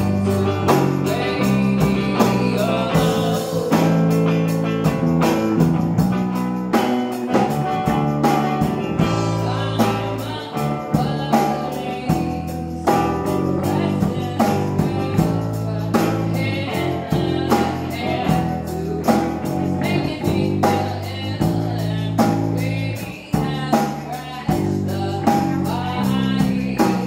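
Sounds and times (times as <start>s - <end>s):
woman singing: 0.0s - 5.2s, 7.3s - 27.0s
bass guitar: 0.0s - 27.0s
drums and cymbals: 0.0s - 27.0s
electric guitar: 0.0s - 27.0s.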